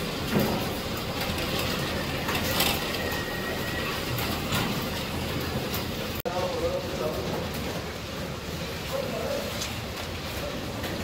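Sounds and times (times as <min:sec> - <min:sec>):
piglet room noise: 0:00.0 - 0:11.0.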